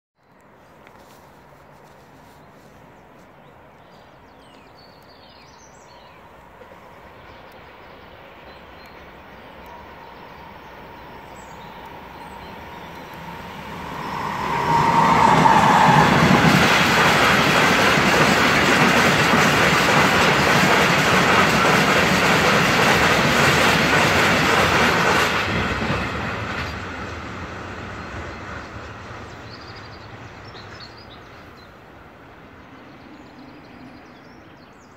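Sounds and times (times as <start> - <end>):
diesel locomotive whine: 6.1 - 34.5.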